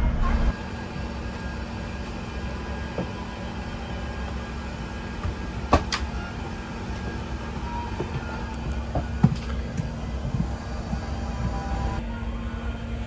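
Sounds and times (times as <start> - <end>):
aircraft cabin hum and rumble: 0.0 - 13.0.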